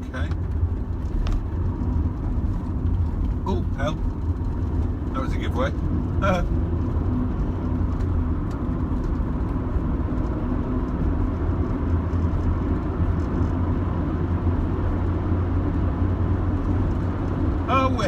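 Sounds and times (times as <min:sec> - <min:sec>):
car cabin engine and tyre drone: 0:00.0 - 0:18.0.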